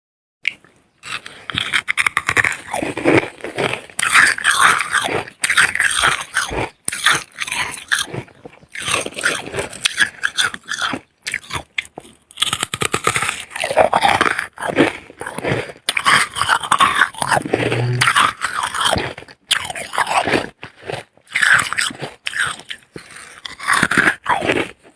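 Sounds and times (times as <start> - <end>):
crunching frost being chewed: 0.4 - 24.9.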